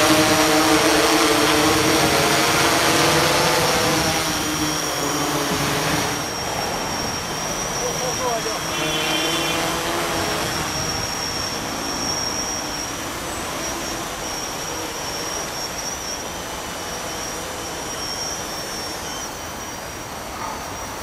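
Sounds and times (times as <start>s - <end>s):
drone propellers whirring: 0.0s - 21.0s
thin high whine: 0.0s - 21.0s.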